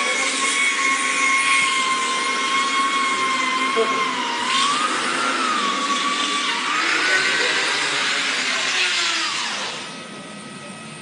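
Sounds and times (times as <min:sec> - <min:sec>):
sewing machine whine: 0:00.0 - 0:11.0.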